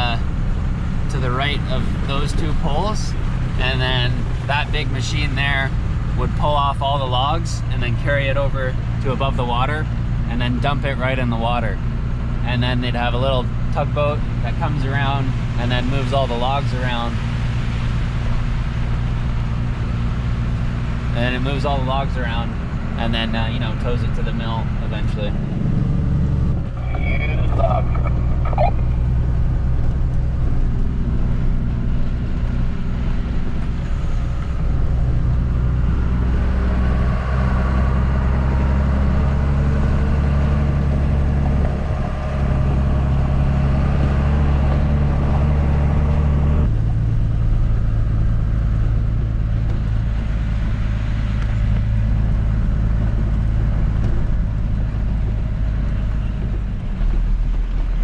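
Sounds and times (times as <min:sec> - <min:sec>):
large engine humming: 0:00.0 - 0:58.0.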